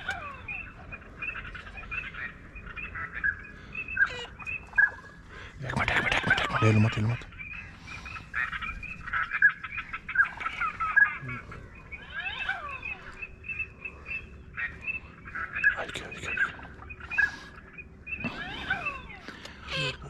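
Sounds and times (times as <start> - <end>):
duck calls: 0.0 - 20.0.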